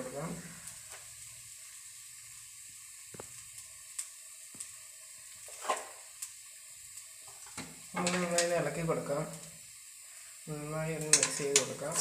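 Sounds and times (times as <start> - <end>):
faint sizzling in metal pan: 0.0 - 12.0.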